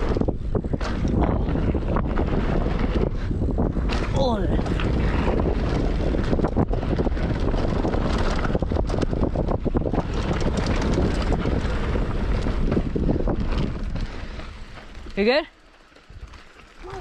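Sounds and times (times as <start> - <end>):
bike knocking and rattling: 0.0 - 17.0
bike tyres rumbling over dirt: 0.0 - 17.0
wind buffeting microphone: 0.0 - 17.0.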